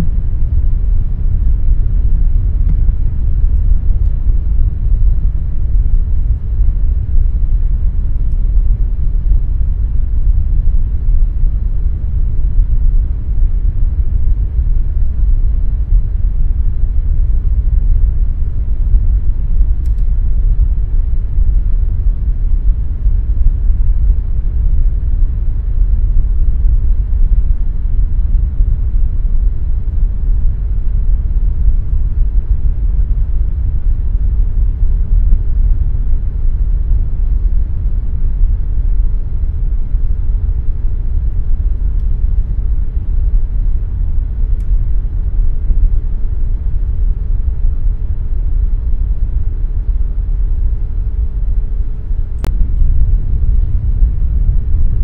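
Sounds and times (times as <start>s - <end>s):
air conditioner running: 0.0s - 55.0s
faint constant hum: 0.0s - 55.0s.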